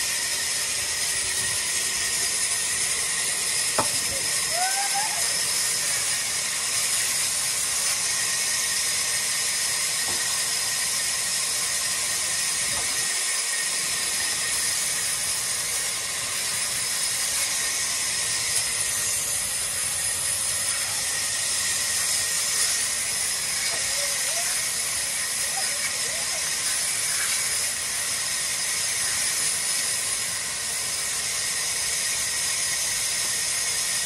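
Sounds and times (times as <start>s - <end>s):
band saw cutting wood: 0.0s - 34.0s.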